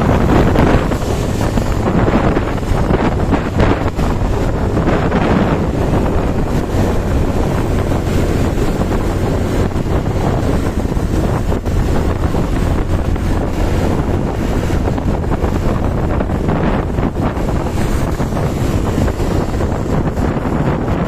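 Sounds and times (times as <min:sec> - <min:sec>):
low drone: 0:00.0 - 0:21.0
wind buffeting microphone: 0:00.0 - 0:21.0.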